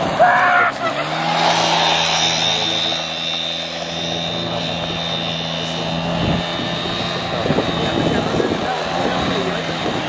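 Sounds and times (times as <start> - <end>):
quad bike engine whining: 0.0 - 10.0.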